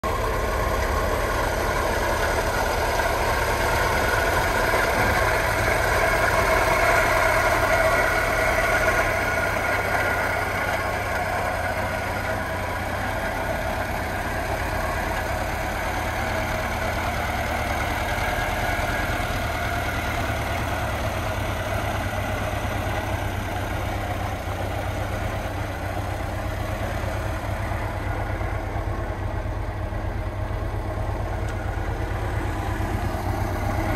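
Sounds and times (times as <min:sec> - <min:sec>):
van engine idling: 0:00.0 - 0:33.9.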